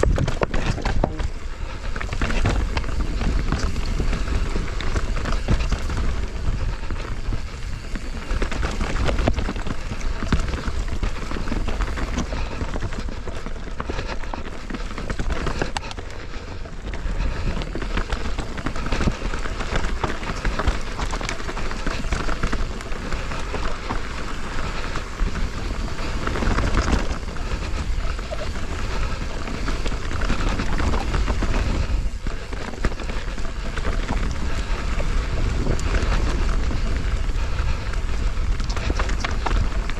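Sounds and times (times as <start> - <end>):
bike rattling: 0.0 - 39.9
bike tyres on dirt and rock: 0.0 - 39.9
wind buffeting microphone: 0.0 - 39.9.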